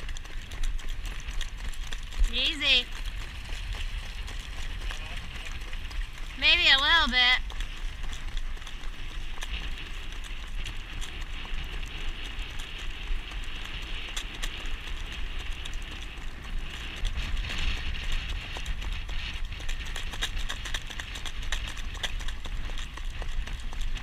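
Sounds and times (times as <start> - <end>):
horse hooves trotting on pavement: 0.0 - 24.0
wind rumble on microphone: 0.0 - 24.0.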